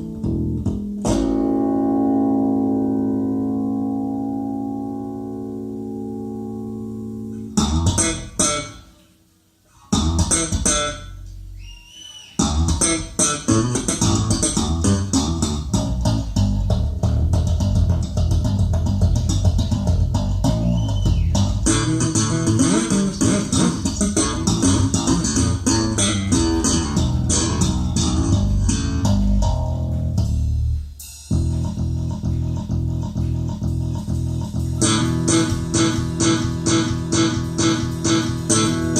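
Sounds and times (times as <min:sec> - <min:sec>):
music with bass and plucked guitar: 0:00.0 - 0:09.0, 0:09.7 - 0:11.6, 0:12.4 - 0:38.9.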